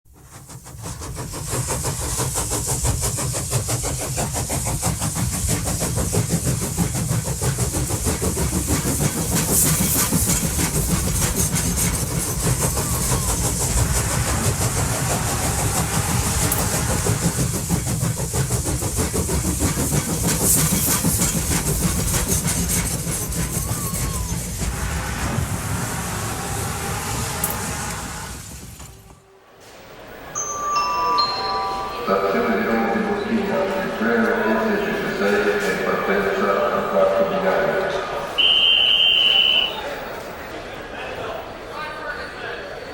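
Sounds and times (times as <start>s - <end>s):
model train running on track: 0.1s - 42.9s.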